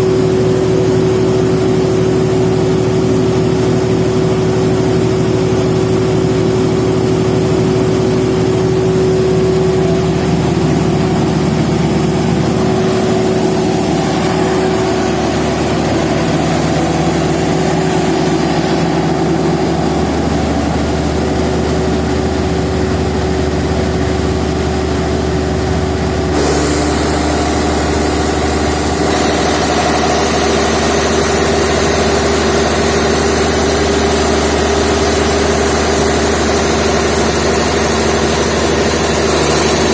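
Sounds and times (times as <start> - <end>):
diesel generator running: 0.0 - 39.9
high whine: 0.0 - 39.9.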